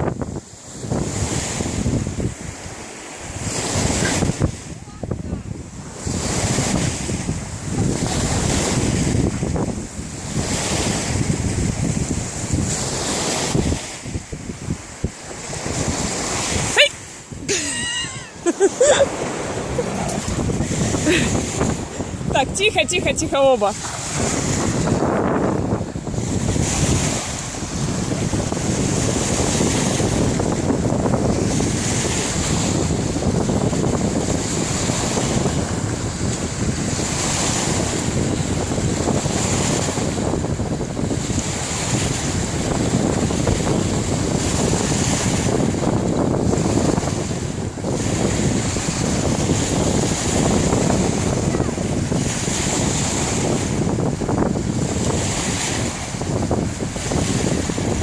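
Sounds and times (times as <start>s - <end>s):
wind buffeting the microphone: 0.0s - 58.0s.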